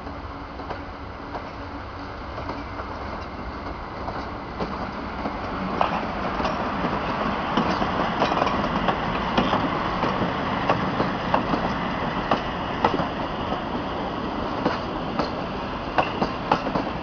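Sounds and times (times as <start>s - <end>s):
train rumbling past: 0.0s - 17.0s
wheels clicking over rail joints: 2.3s - 13.8s, 14.4s - 17.0s.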